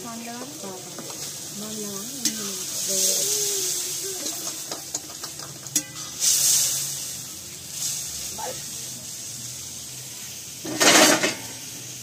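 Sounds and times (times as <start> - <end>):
water hissing in hot pan: 0.0 - 12.0.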